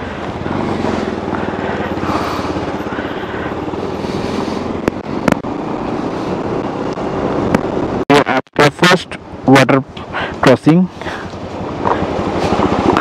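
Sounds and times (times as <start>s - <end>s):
motorcycle engine running: 0.0s - 8.1s, 8.7s - 13.0s.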